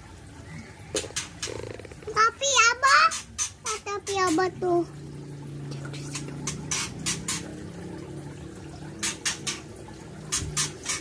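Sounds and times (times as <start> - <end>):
water splashing and bubbling: 0.0 - 11.0.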